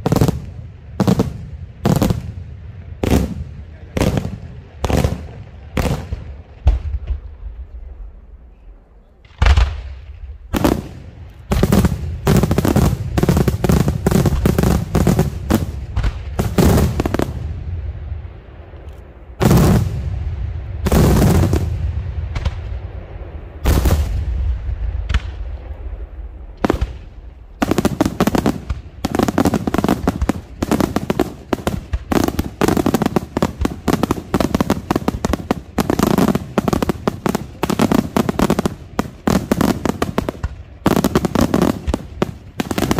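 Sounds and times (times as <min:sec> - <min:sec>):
fireworks bursting in sharp bangs: 0:00.0 - 0:08.4, 0:09.1 - 0:42.9.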